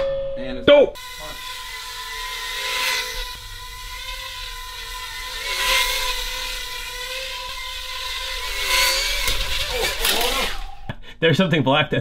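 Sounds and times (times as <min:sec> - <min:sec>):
quadcopter motors whining: 0:01.0 - 0:11.0.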